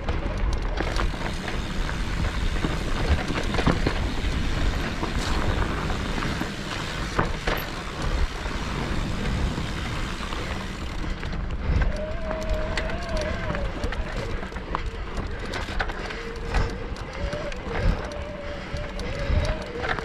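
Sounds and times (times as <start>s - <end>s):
bike knocking and rattling: 0.0s - 20.0s
wind and tyres rumbling on dirt: 0.0s - 20.0s.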